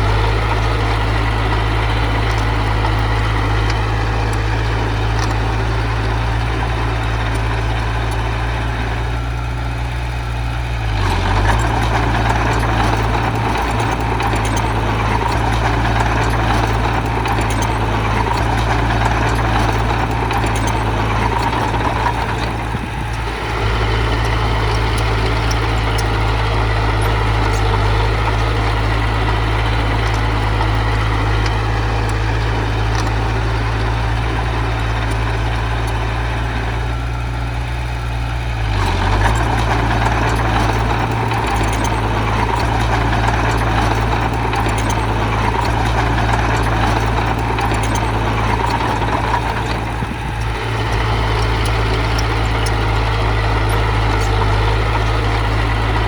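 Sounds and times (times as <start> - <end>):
heavy machinery diesel engine running: 0.0 - 56.0.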